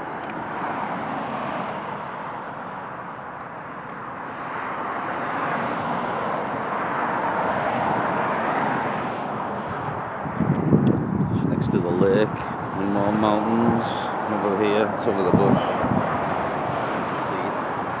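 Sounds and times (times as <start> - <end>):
passing vehicles: 0.0 - 18.0.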